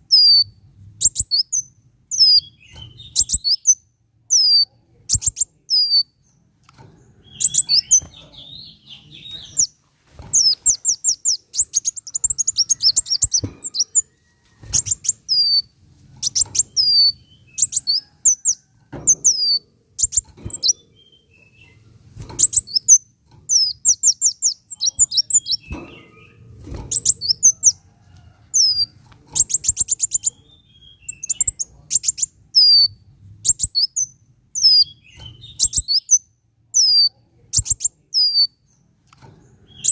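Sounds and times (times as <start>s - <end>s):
bird chirping and trilling: 0.0s - 6.2s, 7.2s - 21.8s, 22.4s - 27.9s, 28.5s - 38.6s, 39.6s - 39.9s.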